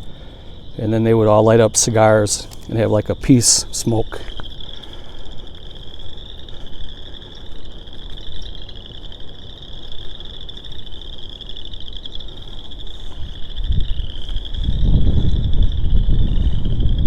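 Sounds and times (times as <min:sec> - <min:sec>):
chorus of frogs trilling: 0:00.0 - 0:17.0.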